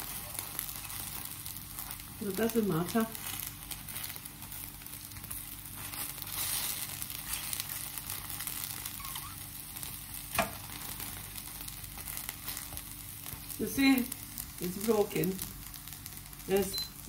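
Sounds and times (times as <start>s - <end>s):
batter sizzling in oil: 0.0s - 17.0s.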